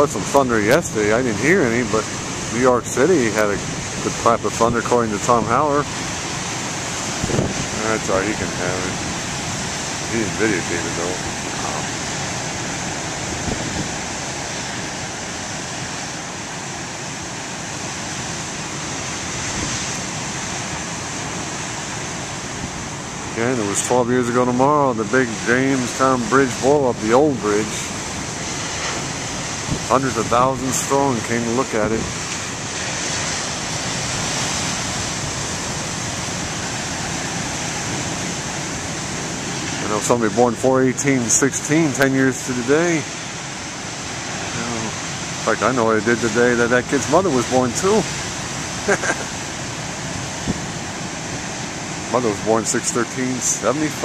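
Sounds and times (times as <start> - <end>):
ocean surf breaking: 0.0 - 54.0
wind blowing across microphone: 0.0 - 54.0.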